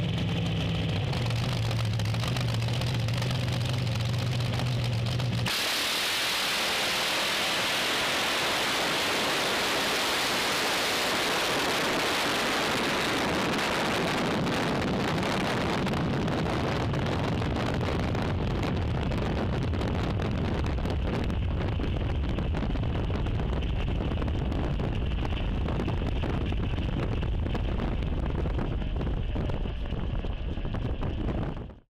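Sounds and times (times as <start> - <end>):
drag racing car at full throttle: 0.0 - 31.8
low engine rumble: 0.0 - 31.9.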